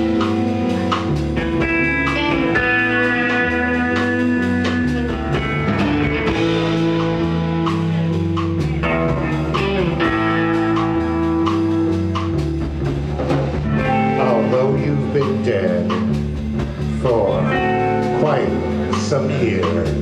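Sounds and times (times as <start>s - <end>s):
bass guitar: 0.0s - 20.0s
drum kit beat: 0.0s - 20.0s
electric guitars: 0.0s - 20.0s.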